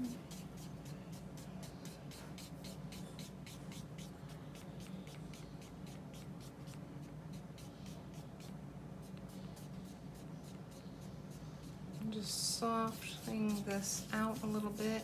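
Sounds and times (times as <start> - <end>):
low steady hum: 0.0 - 15.0
paintbrush scrubbing on paper: 0.0 - 15.0.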